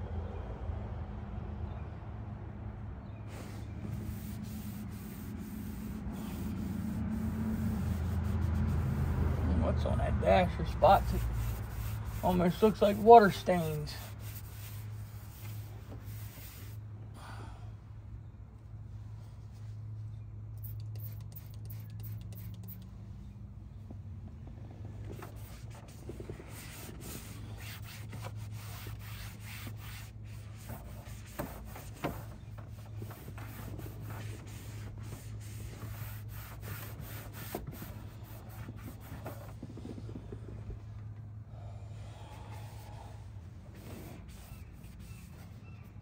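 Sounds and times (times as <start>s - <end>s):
cloth rag wiping dashboard: 3.3s - 17.0s, 19.0s - 46.0s.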